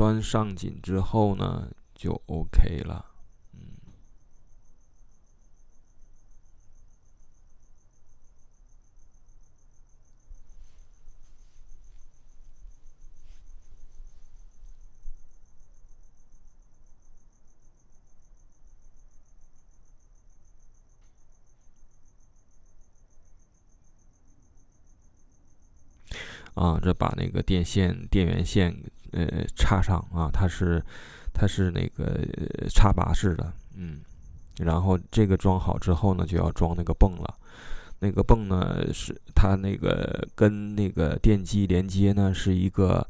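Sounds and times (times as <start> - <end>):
cricket trilling: 0.0 - 43.0.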